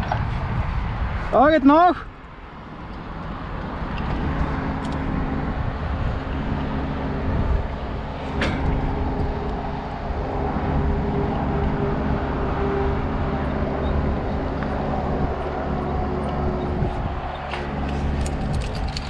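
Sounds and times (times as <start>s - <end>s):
engine running: 2.2s - 19.0s.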